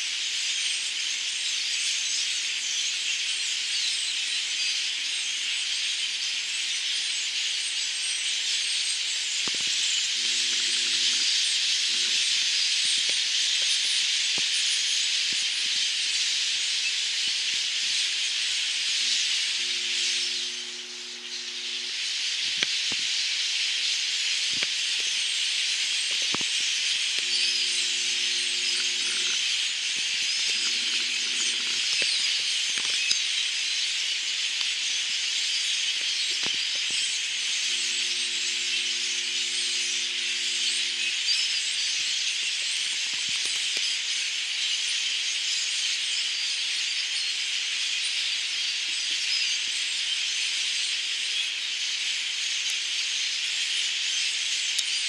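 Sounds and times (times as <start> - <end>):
flock of birds chattering: 0.2 - 55.0.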